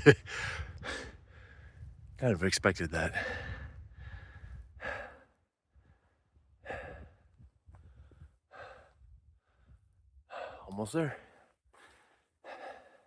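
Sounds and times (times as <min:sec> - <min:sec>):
man breathing hard: 0:00.0 - 0:02.0, 0:03.1 - 0:13.0.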